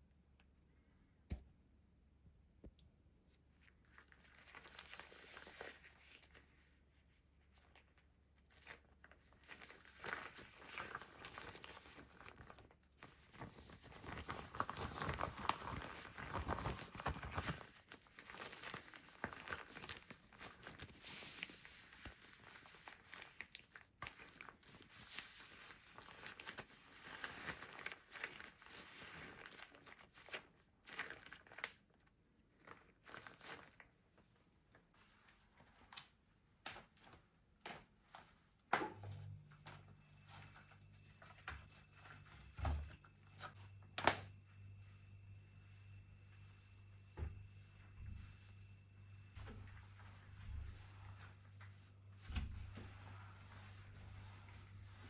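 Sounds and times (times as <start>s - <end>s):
crinkling and rustling: 2.7s - 55.0s.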